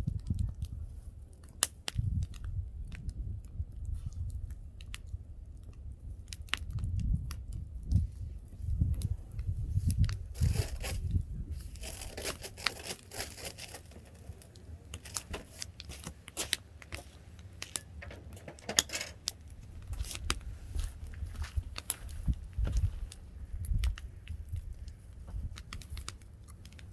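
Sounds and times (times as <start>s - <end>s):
firewood crackling and popping: 0.0s - 26.9s.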